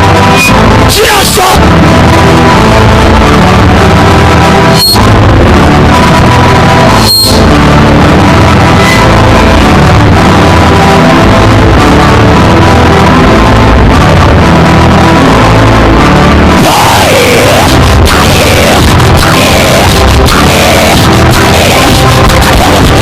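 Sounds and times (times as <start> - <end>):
loud dense background music: 0.0 - 23.0.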